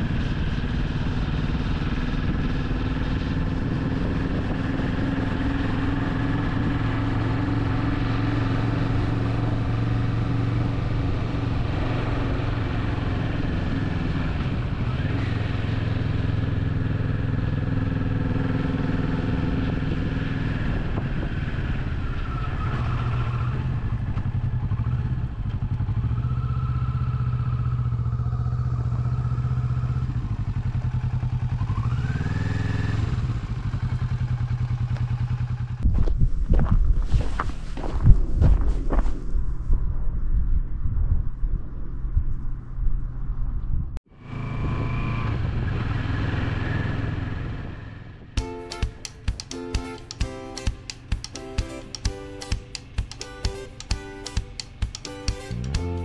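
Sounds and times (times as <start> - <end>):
motorcycle engine running: 0.0 - 38.1, 44.2 - 56.0.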